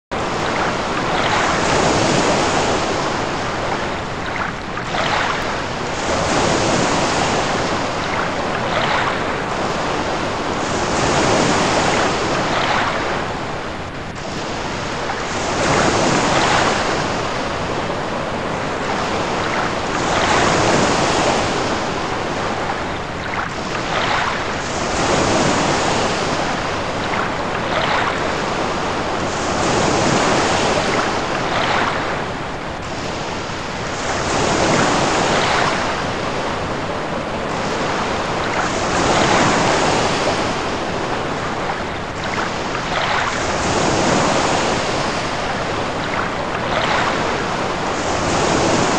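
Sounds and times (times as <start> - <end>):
water rushing in surges: 0.1 - 48.9.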